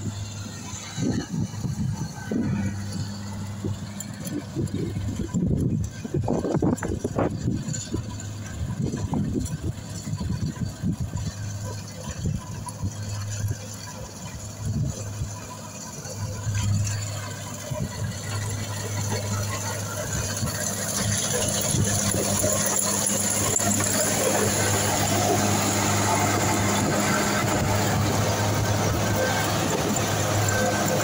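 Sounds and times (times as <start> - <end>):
combine harvester engine drone: 0.0 - 31.0.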